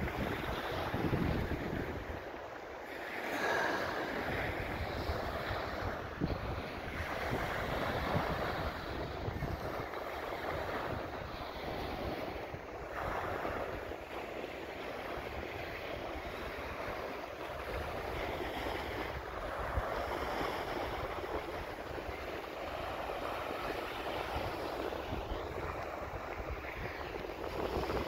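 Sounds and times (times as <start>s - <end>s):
waves washing onto beach: 0.0s - 28.0s
wind buffeting microphone: 0.0s - 28.0s.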